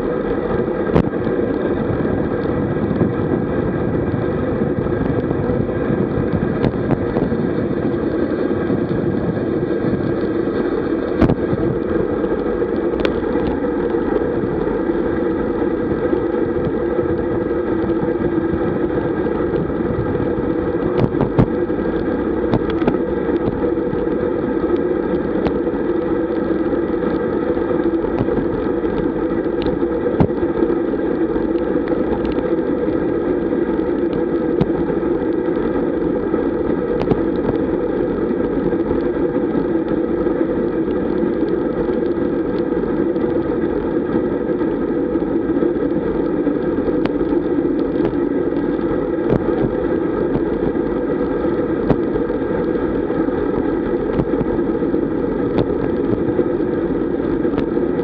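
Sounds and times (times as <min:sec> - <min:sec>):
bicycle tyres on road: 0:00.0 - 0:58.0.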